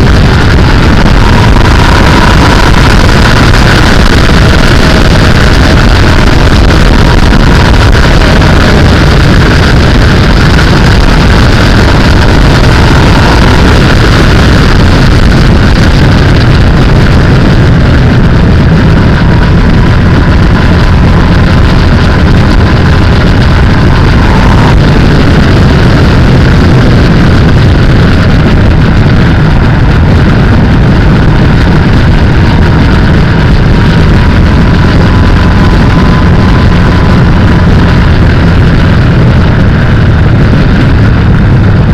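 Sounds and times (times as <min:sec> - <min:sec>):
faint steady whine: 0:00.0 - 0:41.9
motorcycle engine running: 0:00.0 - 0:41.9
wind rush on microphone: 0:00.0 - 0:41.9.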